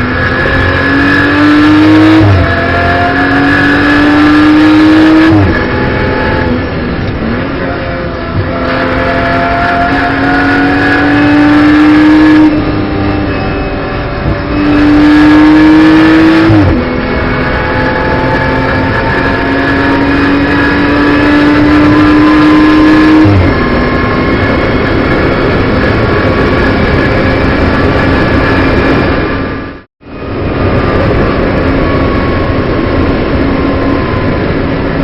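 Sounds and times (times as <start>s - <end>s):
car engine under load: 0.0s - 35.0s.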